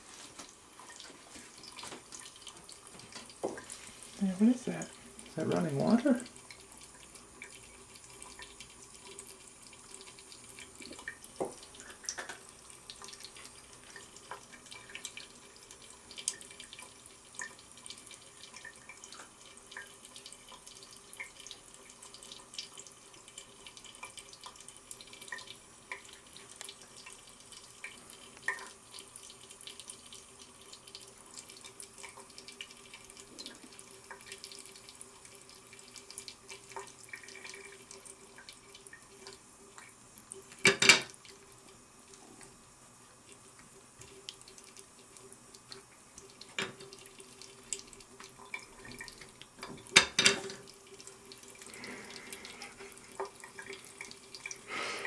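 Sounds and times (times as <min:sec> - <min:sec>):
water splashes and drips: 0:00.0 - 0:41.5, 0:43.2 - 0:54.7
tap water trickling into sink: 0:00.2 - 0:41.5, 0:43.4 - 0:54.7.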